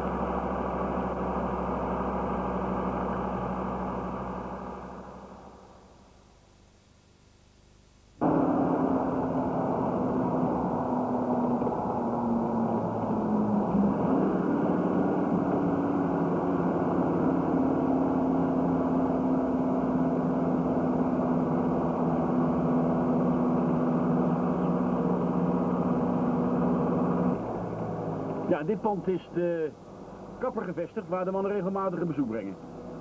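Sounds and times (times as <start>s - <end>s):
car engine: 0.0s - 6.2s, 8.2s - 33.0s
road noise: 0.0s - 6.2s, 8.2s - 33.0s.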